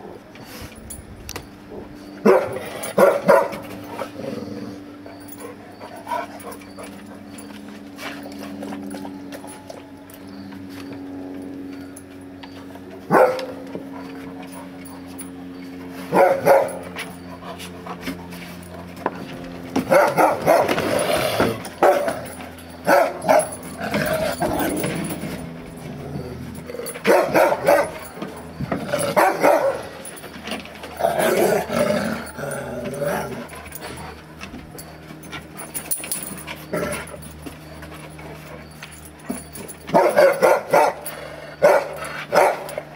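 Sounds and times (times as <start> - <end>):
dogs barking: 1.7 - 42.9
dogs growling: 1.7 - 42.9.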